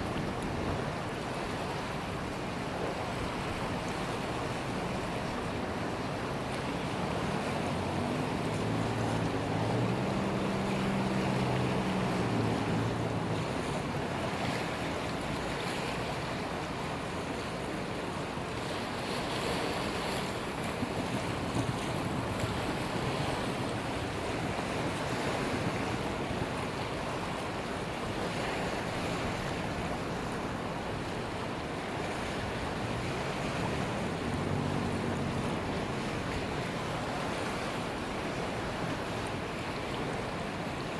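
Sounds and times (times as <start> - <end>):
sea waves washing: 0.0 - 40.9
low engine hum: 3.4 - 17.6, 20.0 - 40.9.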